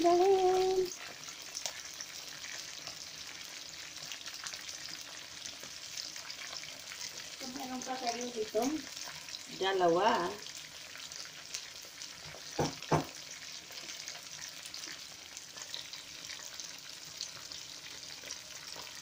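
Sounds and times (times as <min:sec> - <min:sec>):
wings sizzling in hot oil: 0:00.0 - 0:19.0.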